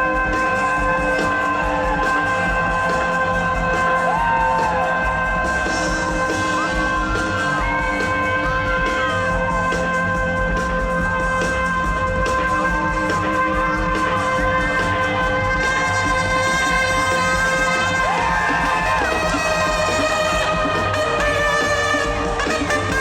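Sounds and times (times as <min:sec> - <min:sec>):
live band music: 0:00.0 - 0:23.0.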